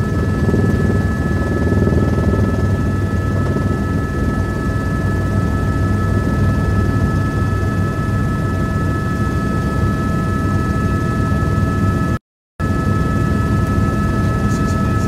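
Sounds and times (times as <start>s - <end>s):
helicopter low drone: 0.0s - 15.0s.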